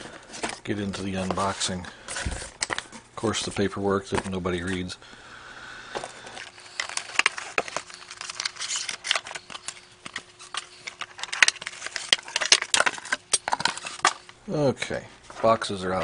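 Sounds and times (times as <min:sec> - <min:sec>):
plastic packaging crinkling: 0:00.0 - 0:04.9, 0:05.9 - 0:14.4.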